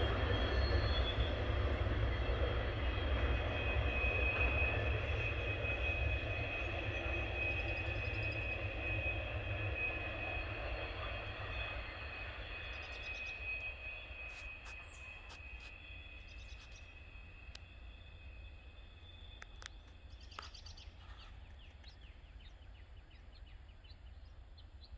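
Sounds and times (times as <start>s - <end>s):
freight train rumble: 0.0s - 24.9s.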